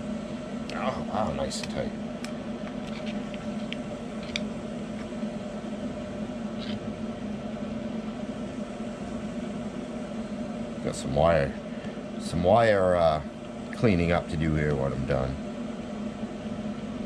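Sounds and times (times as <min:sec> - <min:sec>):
appliance fan humming: 0:00.0 - 0:17.0.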